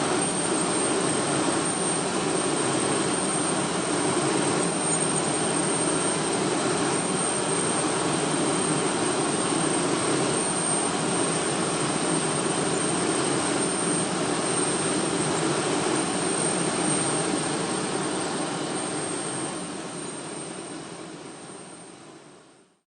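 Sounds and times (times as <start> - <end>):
jet engine rush and whine: 0.0 - 22.8.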